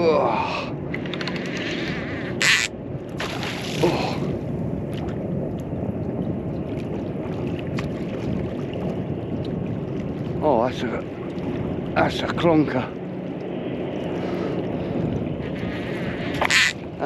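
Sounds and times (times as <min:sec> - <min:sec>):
wind and water noise: 0:00.0 - 0:17.0.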